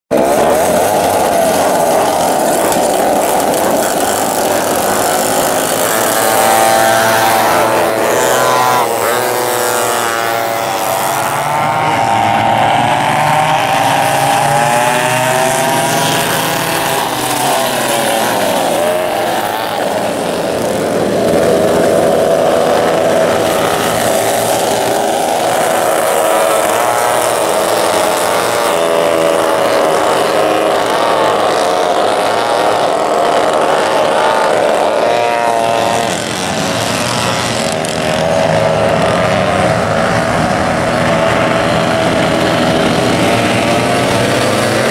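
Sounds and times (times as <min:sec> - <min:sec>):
racing kart engines: 0:00.0 - 0:44.9.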